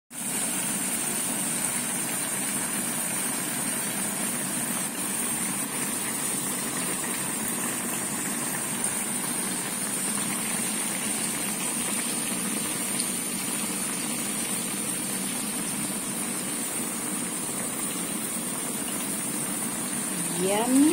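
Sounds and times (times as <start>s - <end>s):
broth bubbling at a boil: 0.1s - 20.9s.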